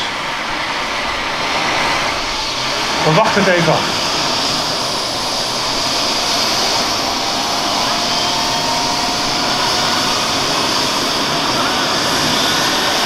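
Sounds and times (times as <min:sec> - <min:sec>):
helicopter turbine whine: 0:00.0 - 0:13.0
rotor rushing noise: 0:00.0 - 0:13.0.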